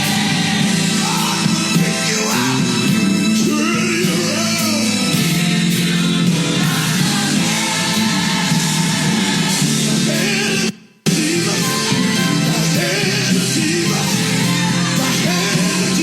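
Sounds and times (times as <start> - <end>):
gospel singing over a band: 0.0 - 16.0.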